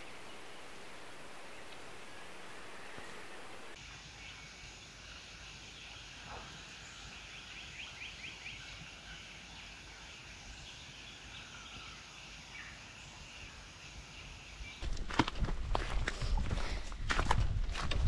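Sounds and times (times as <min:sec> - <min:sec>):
birds chirring chorus: 0:00.0 - 0:17.9.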